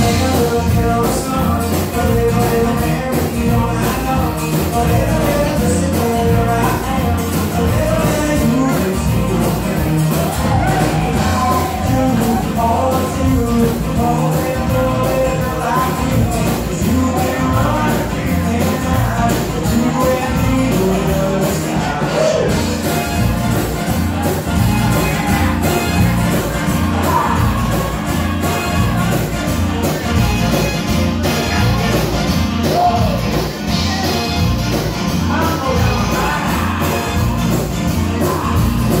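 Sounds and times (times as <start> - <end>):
person singing: 0.0 - 23.2, 24.2 - 30.6, 31.2 - 39.0
live band with keyboard: 0.0 - 39.0.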